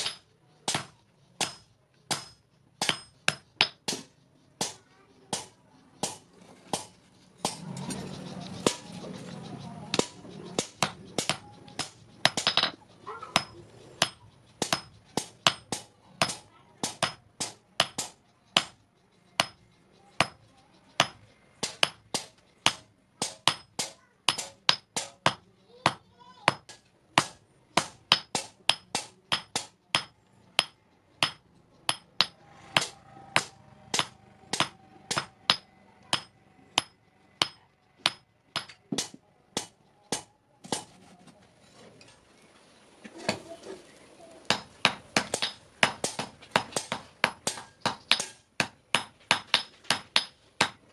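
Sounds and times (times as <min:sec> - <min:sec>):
hammer striking steel on anvil: 0:00.0 - 0:07.9, 0:09.9 - 0:18.8, 0:19.4 - 0:19.6, 0:20.2 - 0:20.4, 0:21.0 - 0:40.9, 0:44.5 - 0:50.8.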